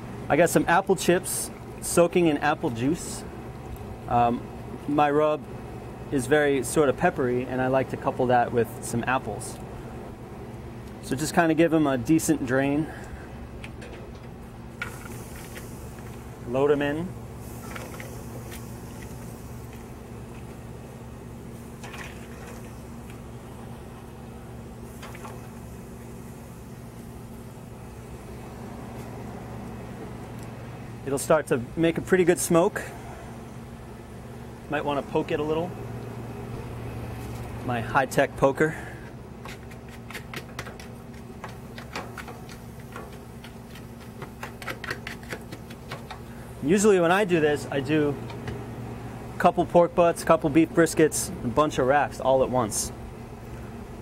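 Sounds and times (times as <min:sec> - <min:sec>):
charcoal fire crackling: 0:00.0 - 0:54.0
low machine hum: 0:00.0 - 0:54.0.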